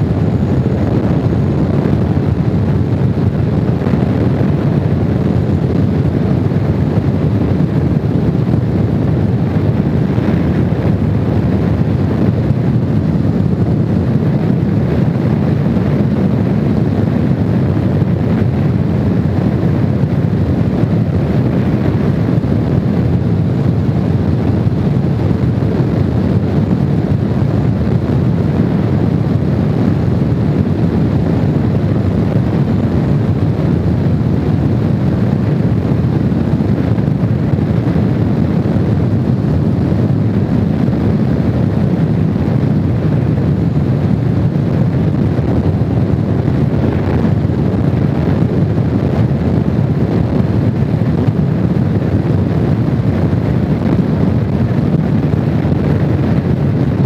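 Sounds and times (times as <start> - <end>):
motorcycle running: 0.0 - 57.0
wind rush on microphone: 0.0 - 57.0.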